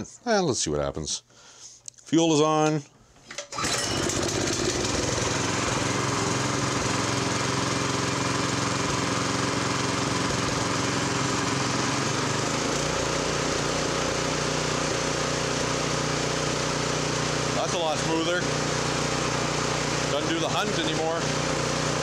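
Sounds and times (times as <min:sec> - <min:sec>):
small engine running steadily: 0:03.6 - 0:22.0.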